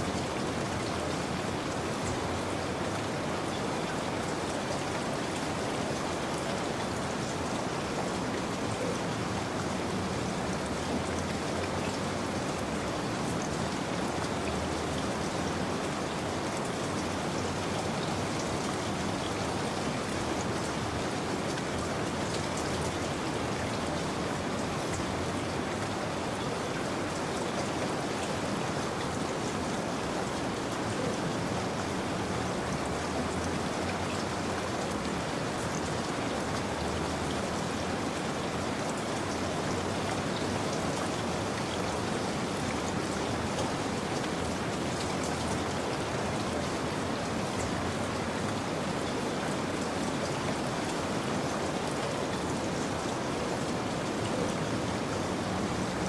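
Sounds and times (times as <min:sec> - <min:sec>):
steady rain falling: 0:00.0 - 0:56.0
raindrops pattering on surface: 0:00.1 - 0:56.0.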